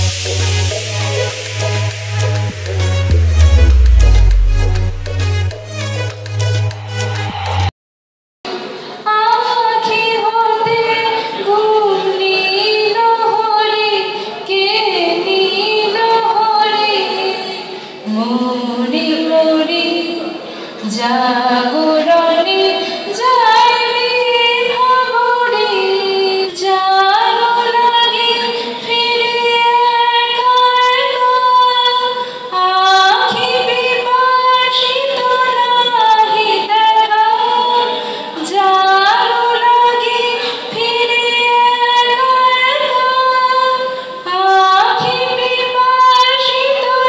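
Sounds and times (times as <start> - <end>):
woman singing: 9.0 - 47.0.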